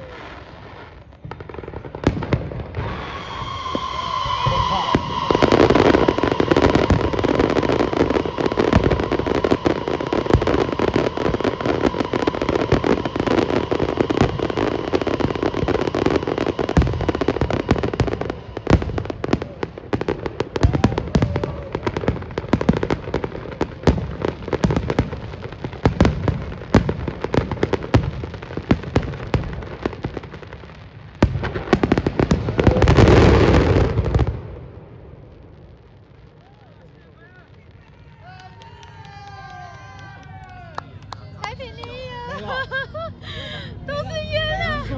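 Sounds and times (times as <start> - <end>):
fireworks crackling and banging: 0.0 - 44.9.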